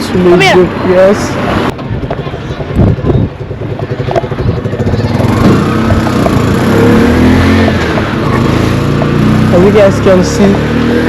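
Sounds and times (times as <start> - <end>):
vehicle engine running: 1.4 - 11.0.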